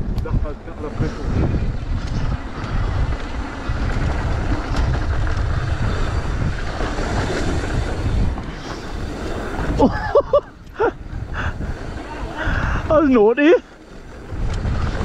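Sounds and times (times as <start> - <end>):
bike clicks and rattles: 0.0 - 15.0
wind buffeting microphone: 0.0 - 15.0
tyres rolling on dirt: 0.3 - 15.0.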